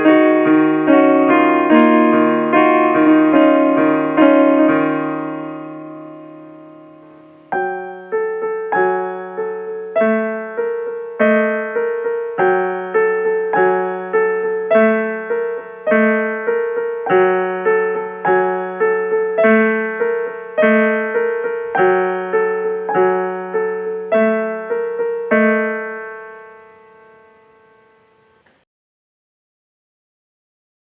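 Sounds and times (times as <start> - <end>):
piano playing single notes: 0.0 - 28.6.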